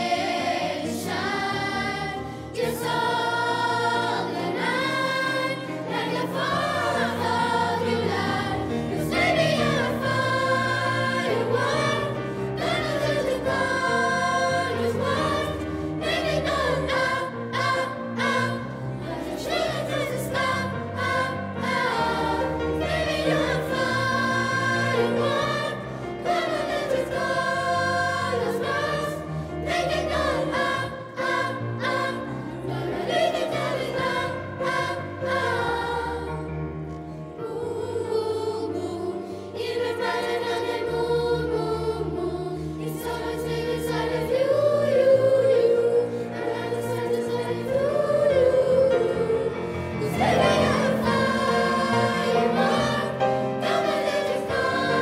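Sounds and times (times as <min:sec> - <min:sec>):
children's choir singing: 0:00.0 - 0:55.0
piano accompaniment: 0:00.0 - 0:55.0.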